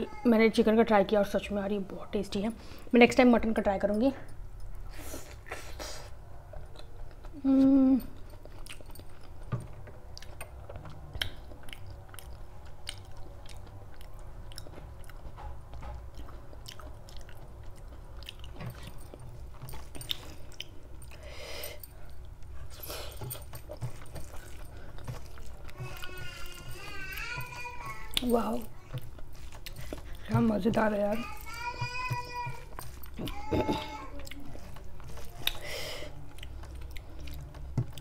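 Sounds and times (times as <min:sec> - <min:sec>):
person chewing food: 0:04.6 - 0:38.0.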